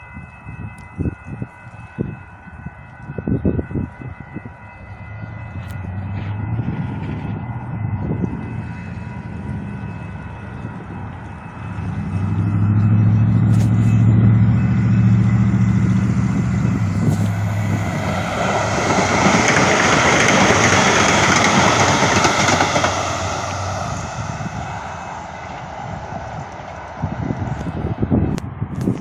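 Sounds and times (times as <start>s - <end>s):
train passing on rails: 0.0s - 29.0s.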